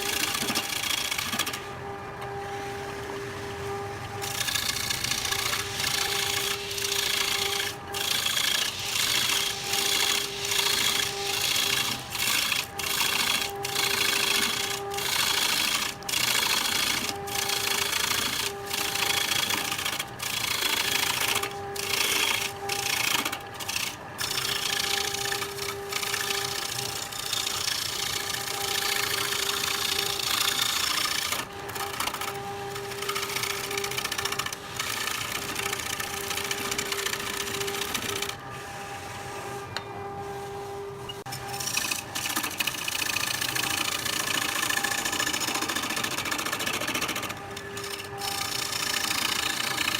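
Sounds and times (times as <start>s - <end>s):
cutting tool scraping wood: 0.0s - 1.7s, 3.7s - 38.5s, 41.2s - 49.9s
wood lathe motor hum: 0.0s - 49.9s.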